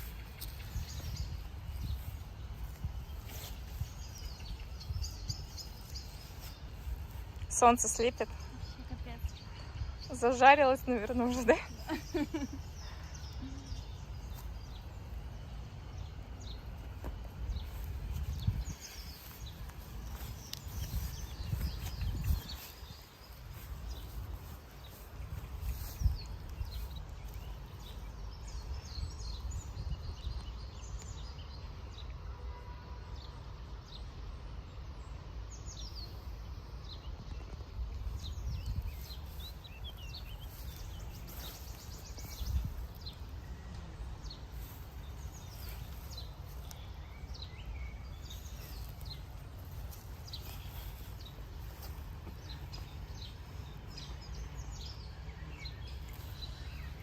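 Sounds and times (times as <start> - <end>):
wind rumble on microphone: 0.0 - 32.1, 34.6 - 57.0
small birds chirping and singing: 0.0 - 32.2, 33.1 - 57.0.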